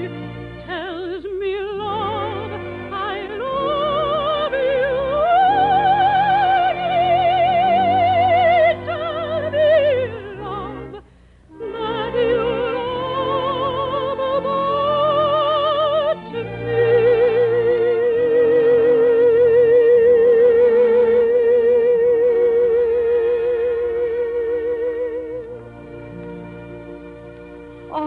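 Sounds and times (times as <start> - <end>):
operetta orchestra with vibrato melody: 0.0 - 28.0.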